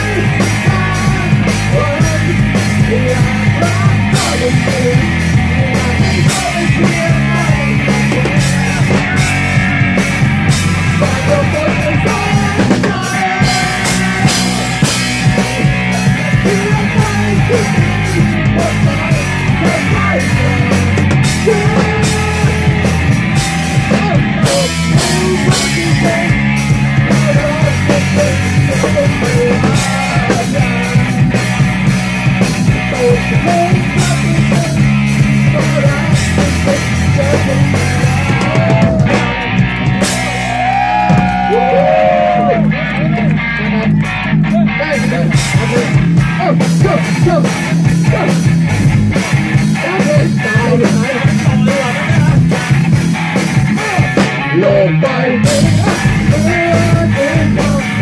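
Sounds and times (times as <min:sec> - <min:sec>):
drum kit beat: 0:00.0 - 0:58.0
electric guitar: 0:00.0 - 0:58.0
rock band playing: 0:00.0 - 0:58.0.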